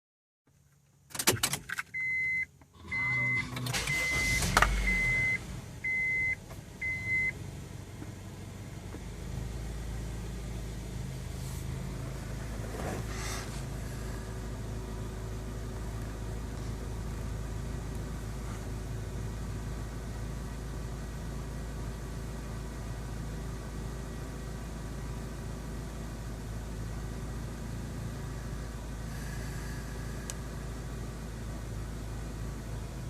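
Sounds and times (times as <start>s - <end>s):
car engine cranking and starting: 0.5s - 33.0s
car engine idling: 2.6s - 33.0s.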